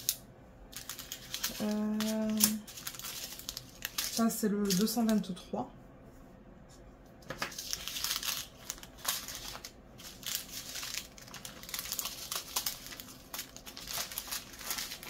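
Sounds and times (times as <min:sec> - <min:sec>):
plastic bags crinkling: 0:00.0 - 0:05.3, 0:07.4 - 0:15.0.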